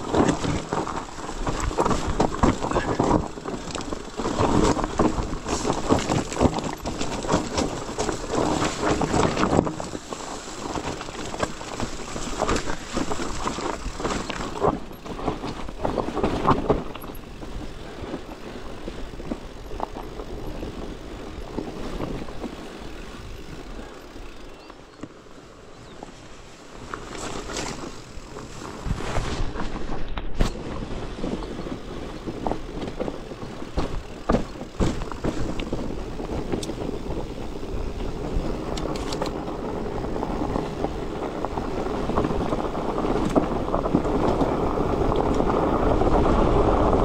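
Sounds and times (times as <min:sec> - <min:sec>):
bike rattling over rocky trail: 0:00.0 - 0:47.0.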